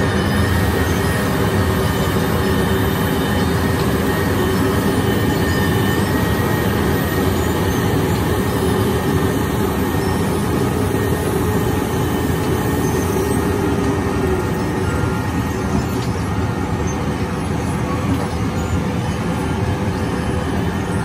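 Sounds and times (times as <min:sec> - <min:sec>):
milling machine grinding asphalt: 0:00.0 - 0:17.7.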